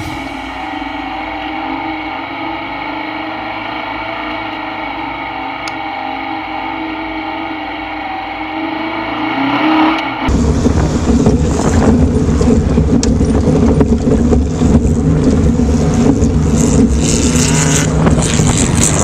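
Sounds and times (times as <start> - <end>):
car engine running and revving: 0.0 - 19.0
rough engine and wind noise: 0.0 - 19.0.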